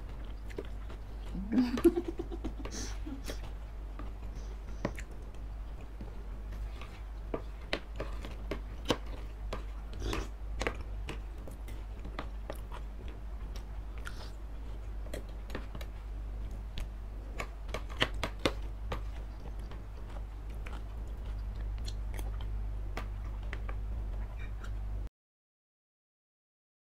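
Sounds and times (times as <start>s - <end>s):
steady low hum: 0.0s - 25.1s.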